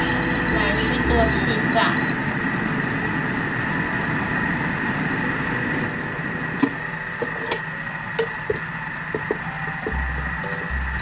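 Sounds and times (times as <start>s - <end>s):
kitchen appliance humming: 0.0s - 11.0s.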